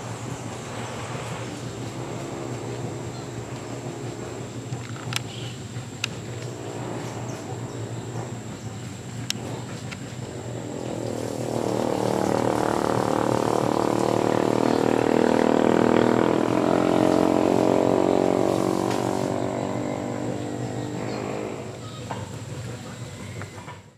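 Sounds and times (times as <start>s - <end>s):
passing engine drone: 0.0s - 22.8s.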